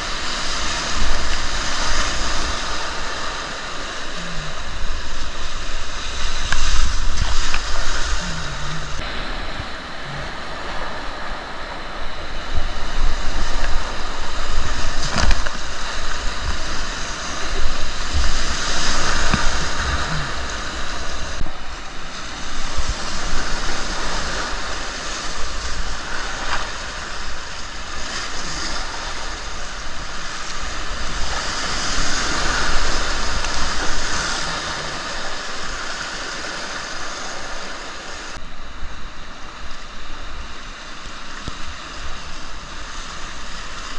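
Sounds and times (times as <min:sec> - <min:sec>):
rushing river water: 0:00.0 - 0:43.9
wind rumbling on microphone: 0:00.0 - 0:43.9.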